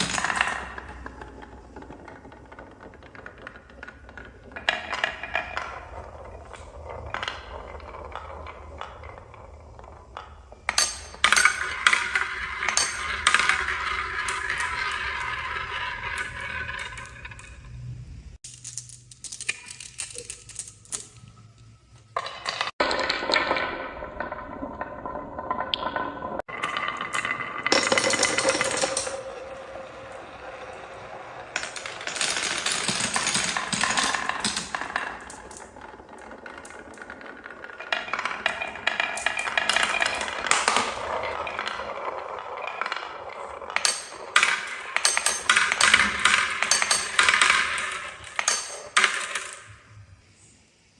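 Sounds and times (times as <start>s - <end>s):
marbles rattling down a track: 0.0s - 17.7s, 22.2s - 49.8s.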